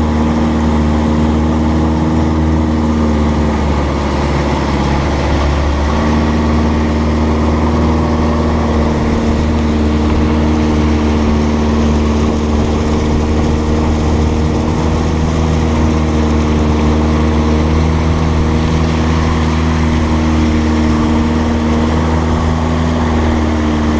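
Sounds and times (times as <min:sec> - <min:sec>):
boat engine drone: 0:00.0 - 0:23.9
rushing water and wind: 0:00.0 - 0:23.9.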